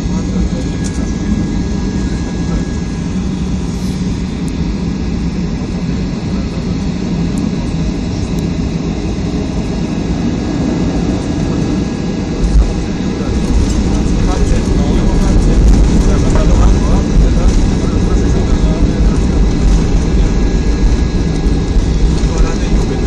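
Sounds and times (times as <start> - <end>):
airliner cabin engine roar: 0.0 - 23.0.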